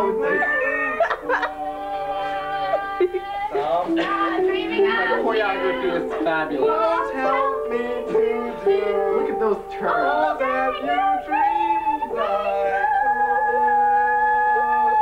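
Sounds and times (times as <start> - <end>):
group singing: 0.0 - 15.0
piano accompaniment: 0.0 - 15.0.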